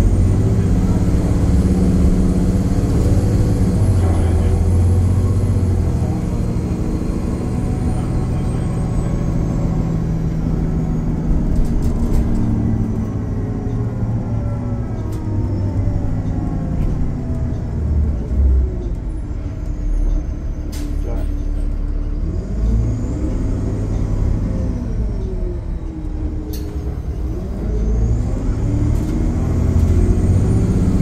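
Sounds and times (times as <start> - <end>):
bus engine droning: 0.0 - 31.0.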